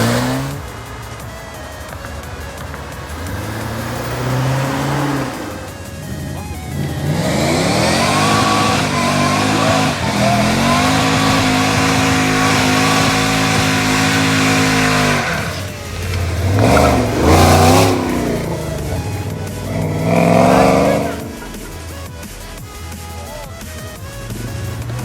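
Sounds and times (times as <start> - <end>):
sports car engine revving: 0.0 - 25.0.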